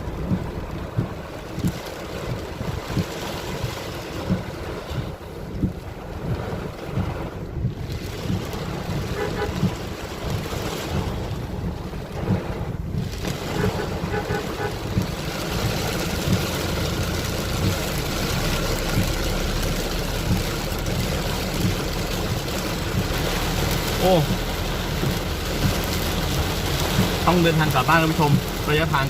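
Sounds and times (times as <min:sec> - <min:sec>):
rain on truck: 0:00.0 - 0:29.0.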